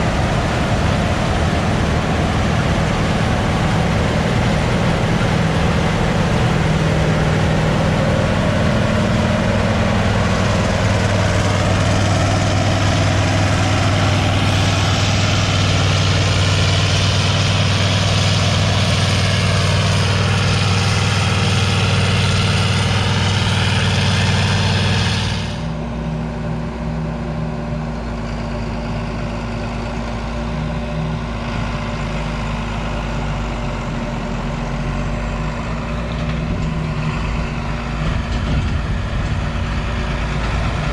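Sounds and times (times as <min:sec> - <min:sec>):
heavy diesel machinery running: 0:00.0 - 0:40.9
quieter diesel engine: 0:00.0 - 0:40.9.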